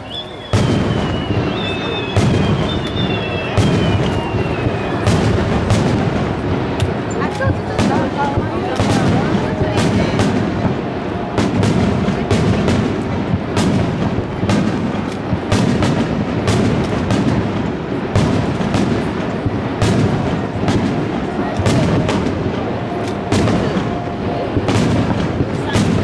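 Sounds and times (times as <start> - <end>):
fireworks bursting with sharp bangs: 0.0 - 26.0
low rumble of launches: 0.0 - 26.0.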